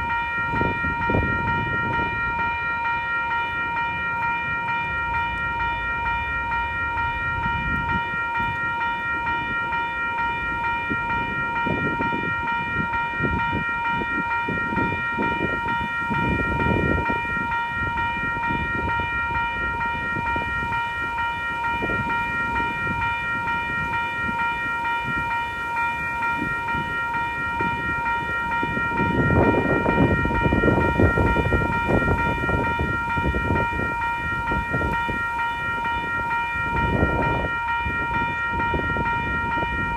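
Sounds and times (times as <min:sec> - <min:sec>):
high-pitched ringing tone: 0:00.0 - 0:39.9
train rumbling past: 0:00.0 - 0:39.9
wind buffeting microphone: 0:00.0 - 0:39.9.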